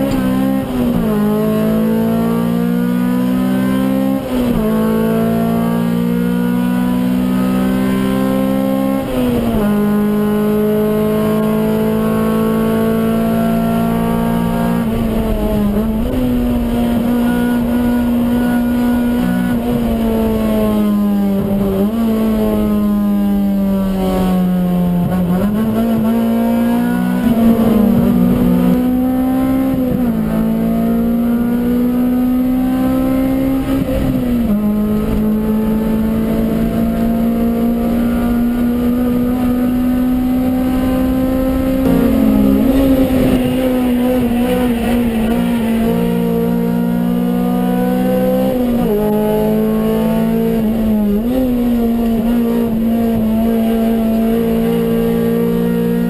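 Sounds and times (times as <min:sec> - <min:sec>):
car engine at high revs: 0:00.0 - 0:56.0
road and tyre noise: 0:00.0 - 0:56.0.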